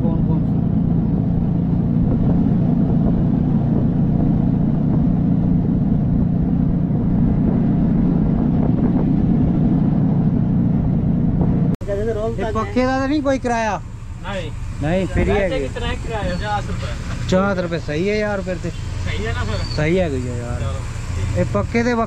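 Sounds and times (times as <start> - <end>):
road noise: 0.0 - 22.0
vehicle engine droning: 0.0 - 22.0.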